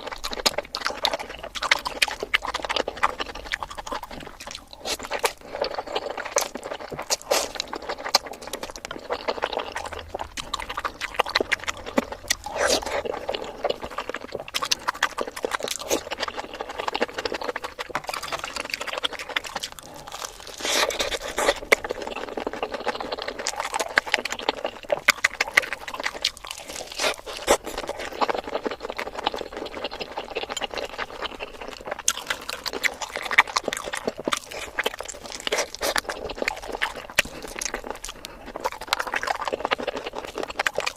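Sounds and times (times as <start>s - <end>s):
sped up chewing and crunching: 0.0s - 40.9s.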